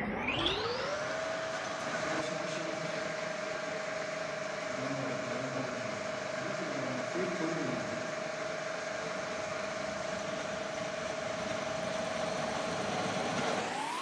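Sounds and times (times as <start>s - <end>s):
drill press motor whine: 0.0s - 14.0s.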